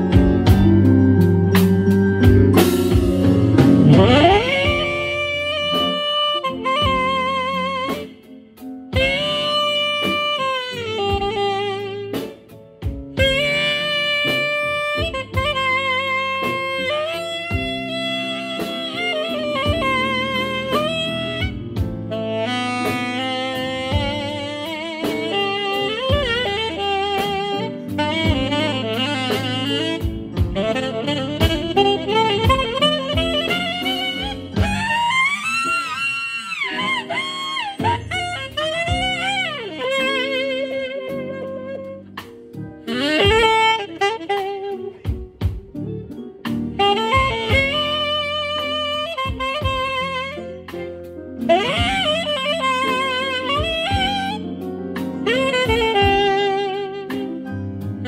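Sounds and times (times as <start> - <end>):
live band playing: 0.0 - 58.0
saxophone: 0.0 - 58.0
slow drums bass and chords: 0.0 - 58.0.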